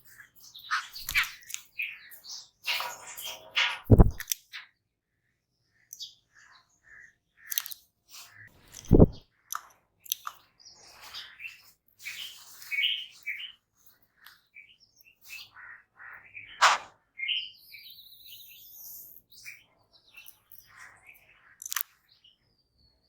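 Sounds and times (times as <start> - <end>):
birds chirping and chattering: 0.0 - 4.6, 5.6 - 23.0.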